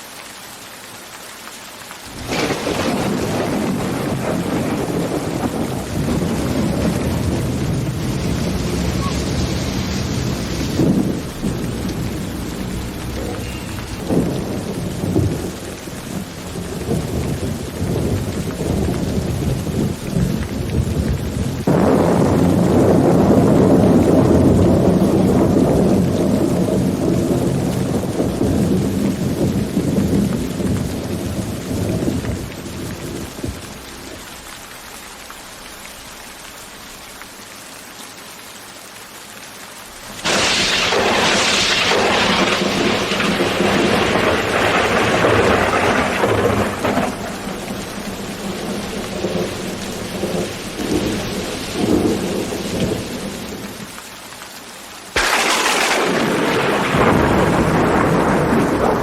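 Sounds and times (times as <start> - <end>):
steady rain: 0.0 - 59.0
sharp thunderclap: 2.1 - 33.6, 40.2 - 53.7, 55.2 - 59.0
rolling thunder: 2.1 - 33.8, 40.2 - 53.8, 55.2 - 59.0.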